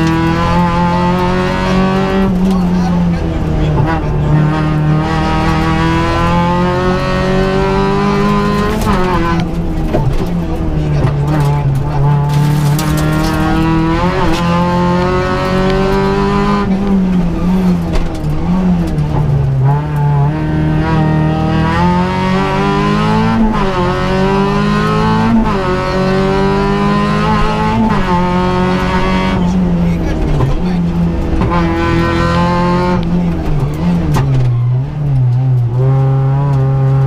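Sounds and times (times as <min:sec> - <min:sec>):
rally car engine revving: 0:00.0 - 0:37.0.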